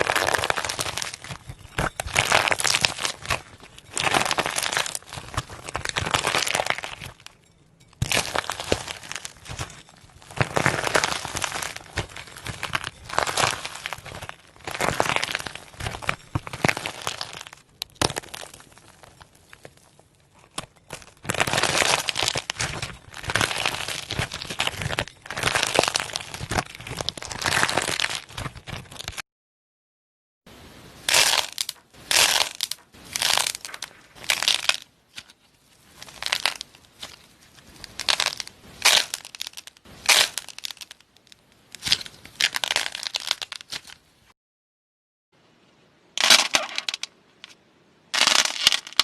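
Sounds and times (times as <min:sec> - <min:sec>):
clay cracking and crunching: 0:00.0 - 0:29.2, 0:31.0 - 0:44.4, 0:46.2 - 0:49.0.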